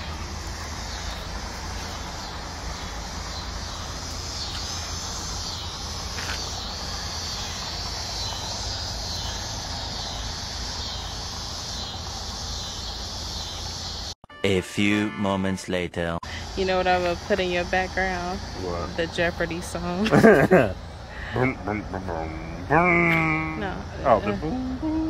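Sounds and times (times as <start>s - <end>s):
insects chirping: 0.0s - 14.2s, 16.2s - 25.0s.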